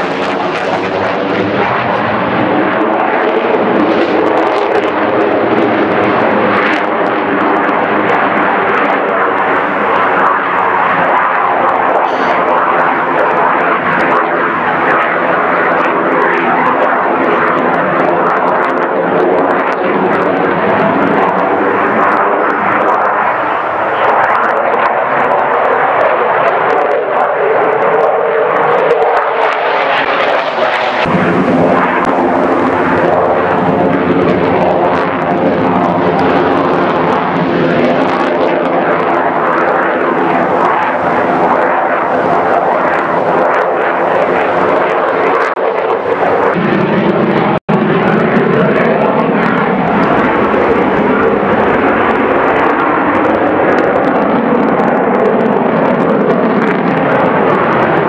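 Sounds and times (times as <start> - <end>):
loud jet roar: 0.0 - 58.0.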